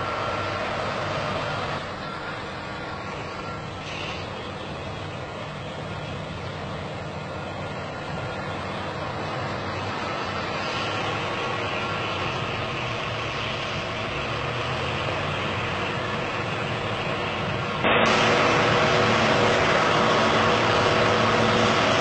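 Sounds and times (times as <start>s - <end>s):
bulldozer diesel engine droning: 0.0s - 22.0s.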